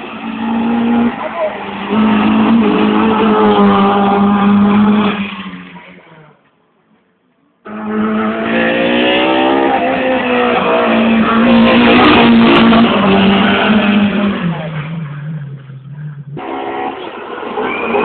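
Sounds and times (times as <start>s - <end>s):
rally car passing at high revs: 0.0s - 6.2s, 7.7s - 18.0s.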